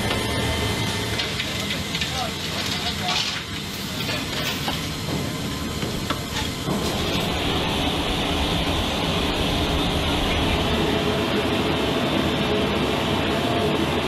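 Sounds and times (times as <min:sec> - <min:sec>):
tow tractor roar: 0:00.0 - 0:02.8, 0:03.4 - 0:14.0
machinery rumble and hiss: 0:00.0 - 0:14.0.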